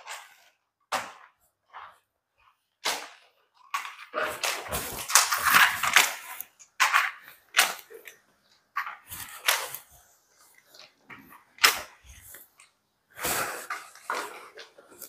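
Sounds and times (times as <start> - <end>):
mop scraping tile floor: 0.0 - 15.0.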